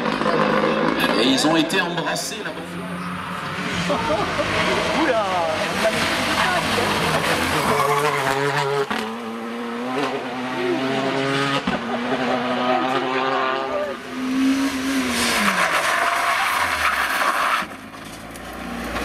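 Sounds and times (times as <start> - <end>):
rally car engine pulling hard: 0.0 - 19.0
tyres skidding: 0.0 - 19.0.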